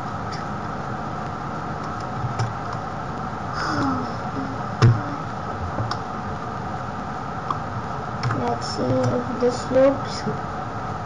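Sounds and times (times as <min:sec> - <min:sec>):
microphone hum and hiss: 0:00.0 - 0:11.0.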